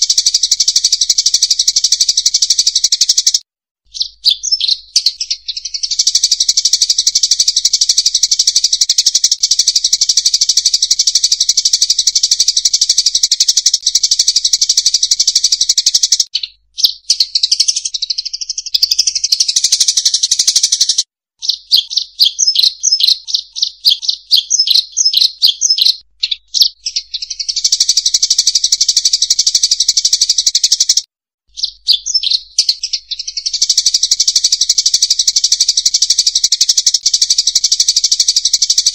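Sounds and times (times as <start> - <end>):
flock of birds chirping: 0.0 - 11.9, 12.6 - 30.4, 31.6 - 38.9.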